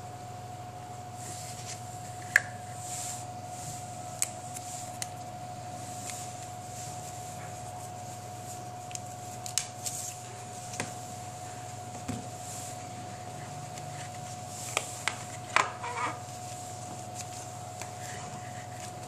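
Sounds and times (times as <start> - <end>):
faint background hum: 0.0 - 19.0.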